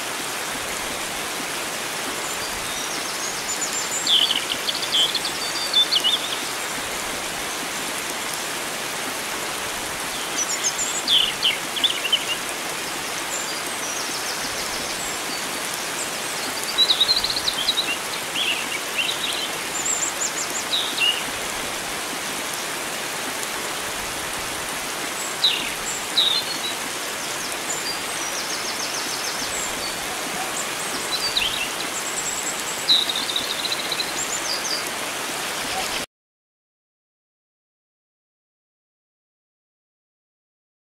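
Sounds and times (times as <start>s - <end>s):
flowing water rushing: 0.0s - 36.1s
songbirds chirping: 2.0s - 36.1s.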